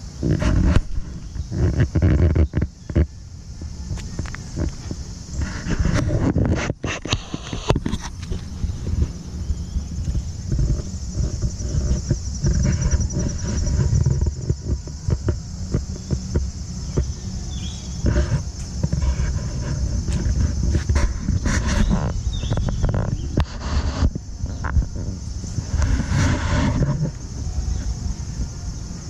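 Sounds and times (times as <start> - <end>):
high-pitched insect drone: 0.0 - 29.0.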